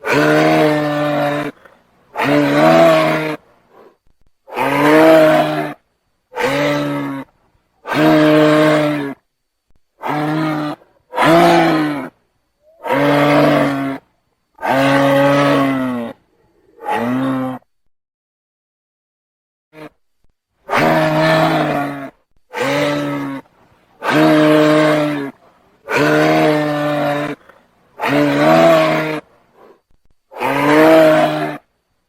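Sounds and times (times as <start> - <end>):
giraffe groaning calls: 0.0 - 3.9, 4.5 - 9.2, 10.0 - 17.7, 20.7 - 31.7.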